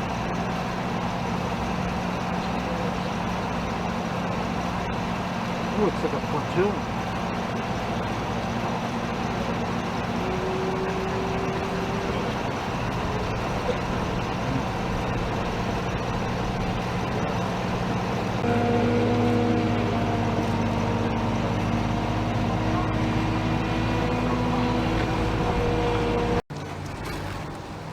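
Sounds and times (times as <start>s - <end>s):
louder engine: 0.0s - 27.9s
vehicle engine idling: 0.0s - 27.9s.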